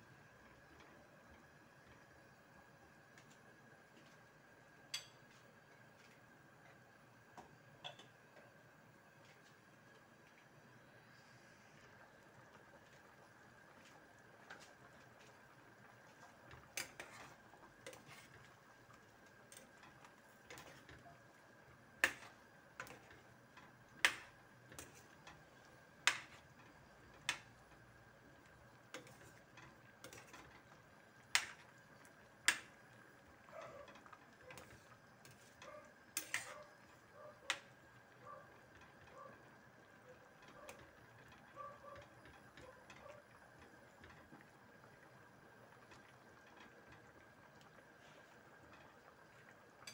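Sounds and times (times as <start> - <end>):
faint bubbling with pops: 0.0 - 49.9.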